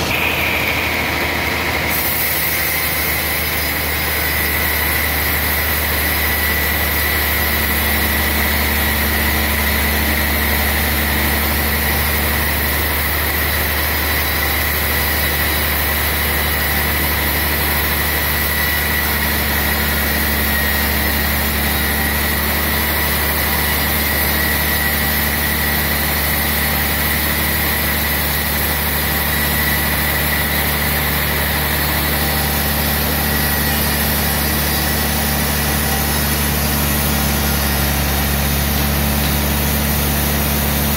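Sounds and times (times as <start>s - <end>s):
sawmill motor hum: 0.0s - 40.9s
thin steady whine: 0.0s - 40.9s.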